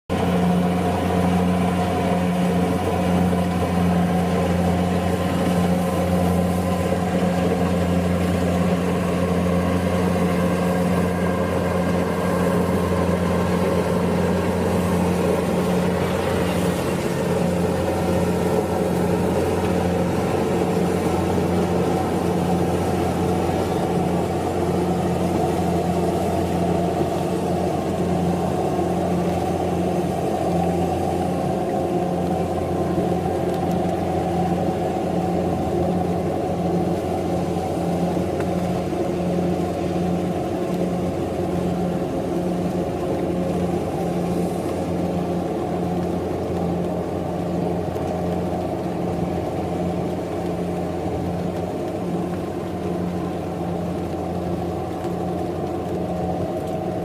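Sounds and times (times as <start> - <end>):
combine harvester engine droning: 0.1 - 57.0.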